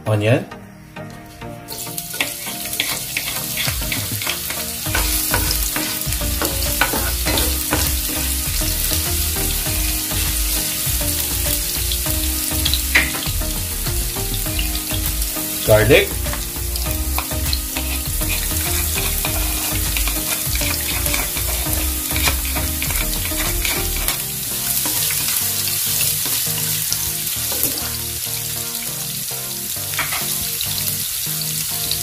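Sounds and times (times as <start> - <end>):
onion sizzling in oil: 1.7 - 32.0.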